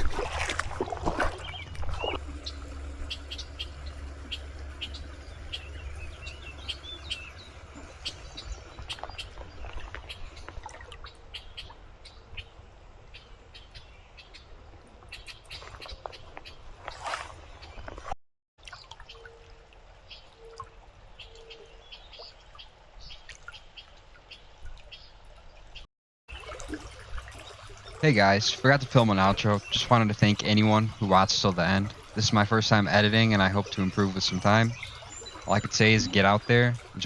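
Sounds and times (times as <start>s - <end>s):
small birds chirping: 1.2s - 12.5s, 13.1s - 18.0s, 20.1s - 26.5s, 27.3s - 37.0s.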